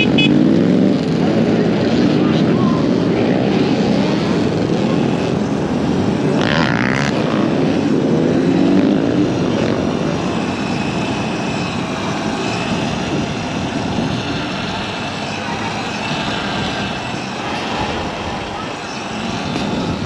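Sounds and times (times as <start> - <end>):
dirt bike engines revving: 0.0 - 20.0
wind rush: 0.0 - 20.0.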